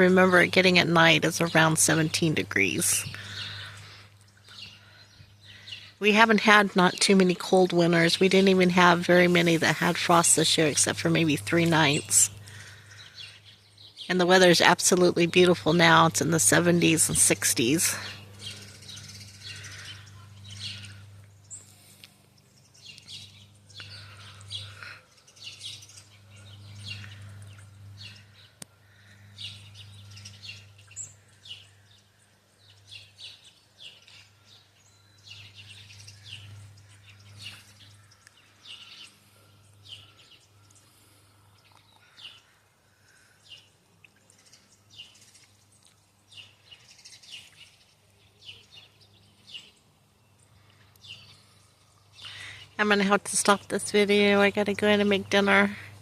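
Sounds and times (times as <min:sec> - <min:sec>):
low steady hum: 0:00.0 - 0:56.0
small birds chirping: 0:00.0 - 0:56.0.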